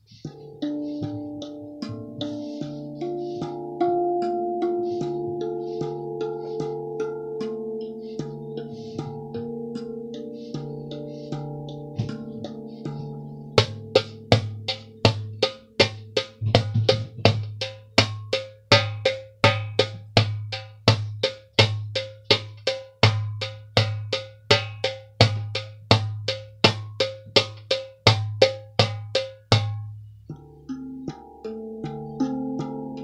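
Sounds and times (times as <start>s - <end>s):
hand drum rhythm: 0.0s - 33.0s.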